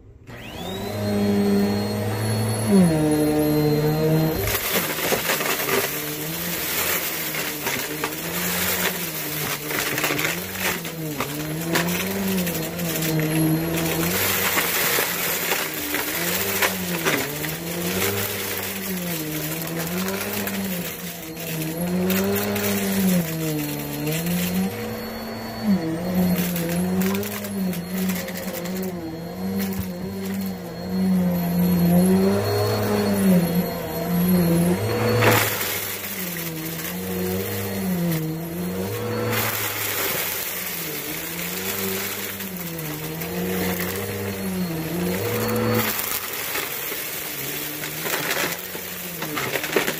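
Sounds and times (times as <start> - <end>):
vacuum cleaner running: 0.0 - 49.9
grit crackling in vacuum: 0.6 - 49.9.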